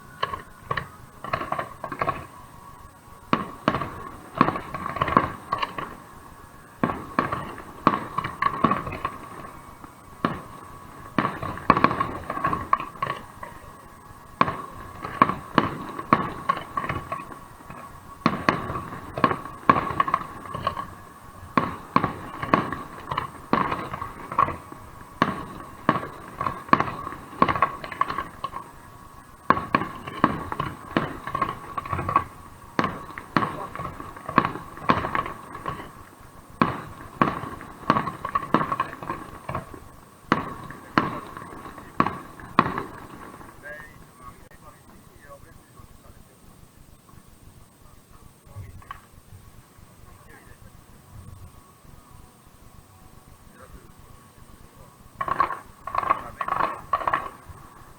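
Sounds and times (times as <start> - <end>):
fireworks bangs and crackles: 0.0 - 57.9
steady faint tone: 0.0 - 57.9.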